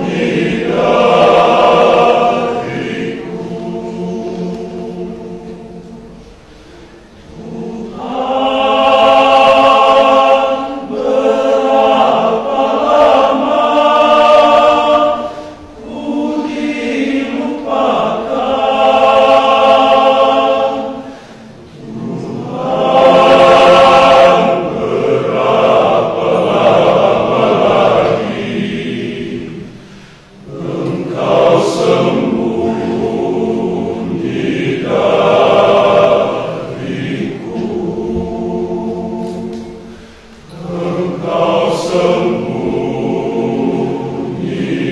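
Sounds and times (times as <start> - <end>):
men's choir singing: 0.0 - 44.9.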